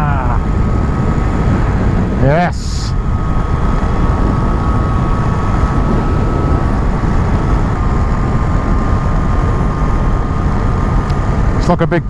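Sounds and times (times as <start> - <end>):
motorcycle engine running: 0.0 - 11.6
thin steady whine: 0.0 - 12.0
wind and road noise: 0.0 - 12.0.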